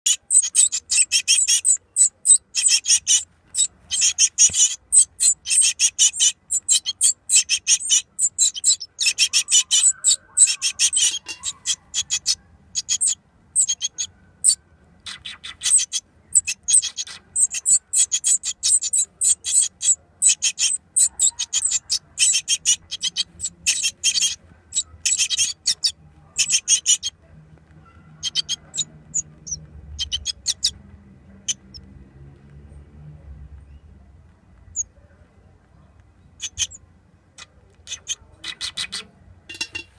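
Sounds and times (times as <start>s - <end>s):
nestlings chattering: 0.0s - 27.2s, 27.9s - 31.9s, 36.2s - 39.9s.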